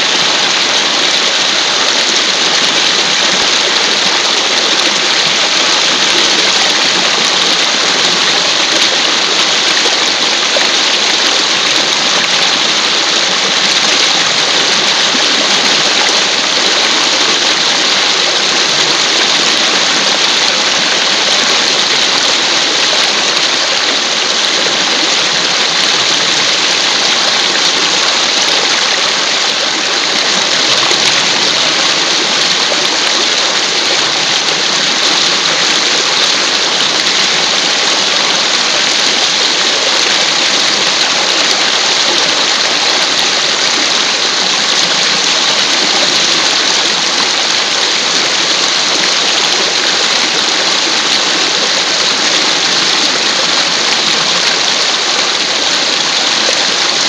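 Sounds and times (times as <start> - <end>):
water splashing over rocks: 0.0 - 57.0.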